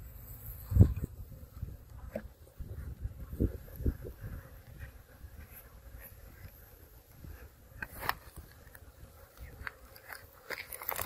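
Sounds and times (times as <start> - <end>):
bees humming: 0.0 - 11.0.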